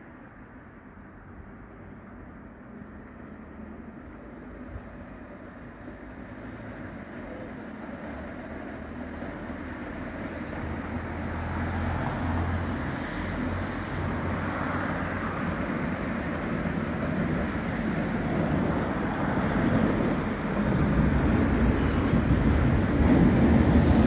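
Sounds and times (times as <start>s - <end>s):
train rumble approaching: 1.4s - 24.0s.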